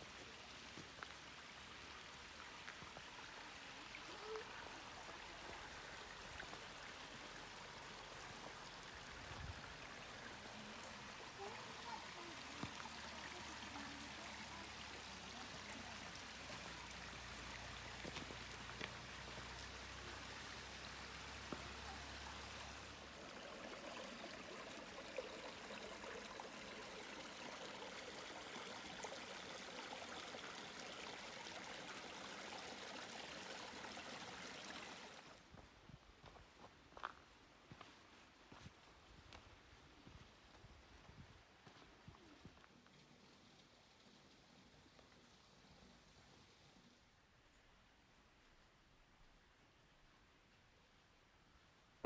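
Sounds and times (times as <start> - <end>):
stream trickling over rocks: 0.0 - 47.1.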